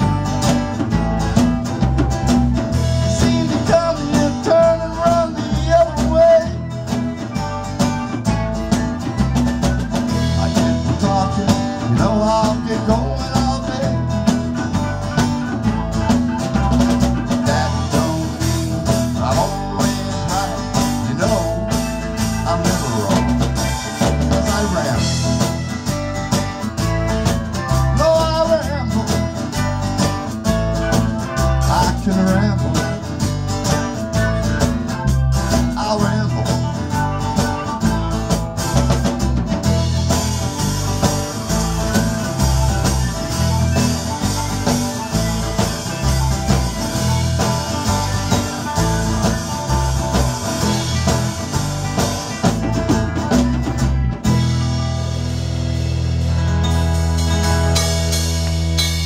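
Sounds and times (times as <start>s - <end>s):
blues-rock band playing: 0.0s - 59.0s
drum kit: 0.0s - 59.0s
electric and acoustic guitars: 0.0s - 59.0s.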